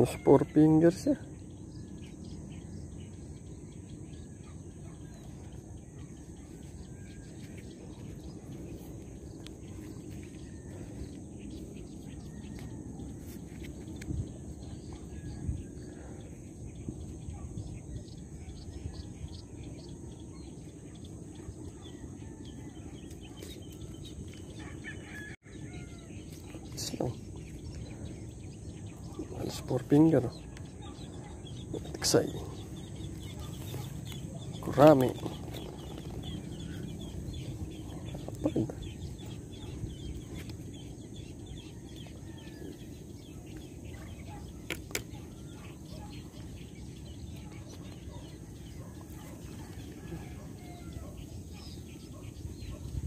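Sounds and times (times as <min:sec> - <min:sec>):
bird chirps: 0:00.0 - 0:53.0
wind rumbling on microphone: 0:05.0 - 0:29.4, 0:30.3 - 0:53.0.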